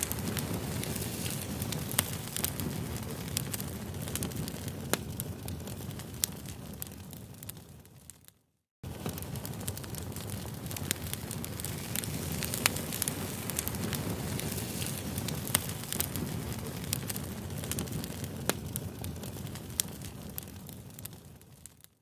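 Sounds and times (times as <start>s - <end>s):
burning wood crackles and pops: 0.0s - 22.0s
rumble of campfire flames: 0.0s - 22.0s.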